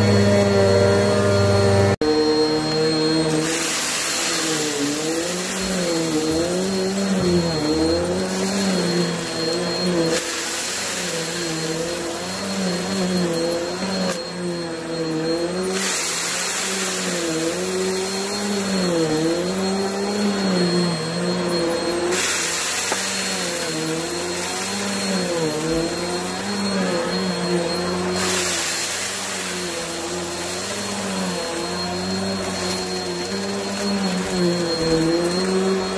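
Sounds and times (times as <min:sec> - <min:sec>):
vacuum cleaner on carpet: 0:00.0 - 0:35.9.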